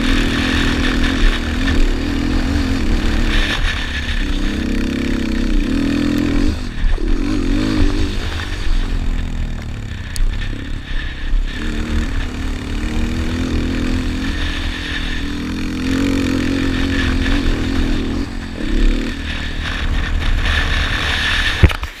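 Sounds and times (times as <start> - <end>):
quad engine revving: 0.0 - 22.0.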